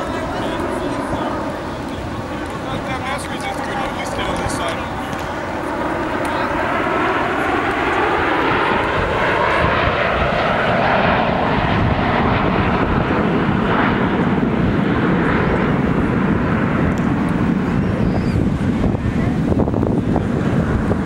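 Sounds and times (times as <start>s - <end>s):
falling jet whine: 0.0s - 21.0s
jet roar: 0.0s - 21.0s.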